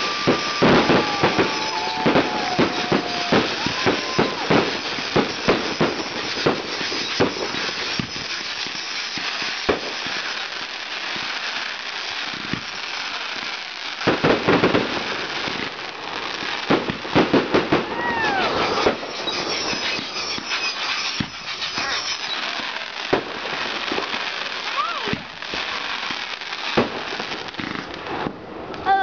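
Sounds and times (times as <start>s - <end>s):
fireworks bangs: 0.0s - 29.0s
fireworks crackling: 0.0s - 29.0s
fireworks whistling: 0.0s - 29.0s.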